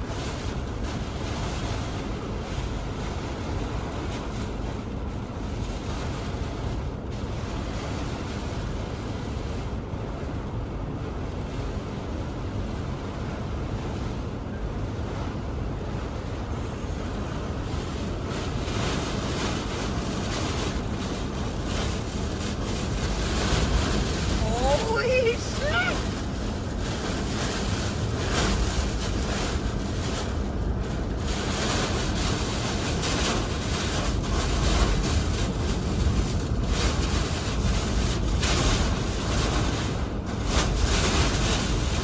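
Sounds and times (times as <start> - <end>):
strong wind and rain: 0.0 - 42.0
wind buffeting microphone: 0.0 - 42.0.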